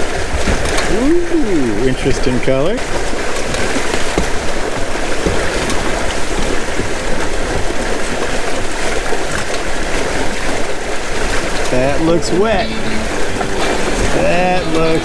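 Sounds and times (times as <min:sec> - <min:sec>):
water rushing along boat hulls: 0:00.0 - 0:15.0.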